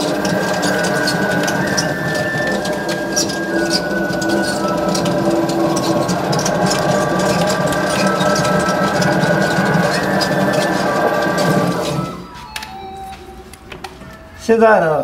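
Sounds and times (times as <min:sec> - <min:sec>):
potter's wheel motor humming: 0:00.0 - 0:12.8.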